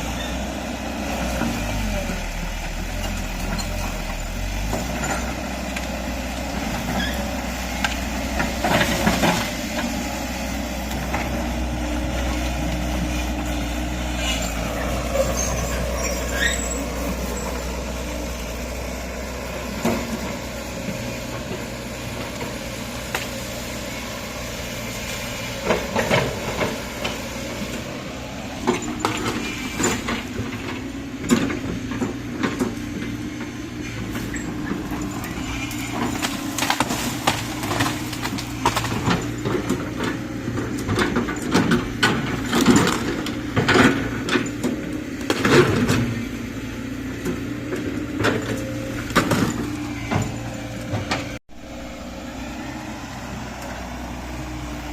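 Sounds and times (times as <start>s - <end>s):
excavator engine running: 0.0s - 54.9s.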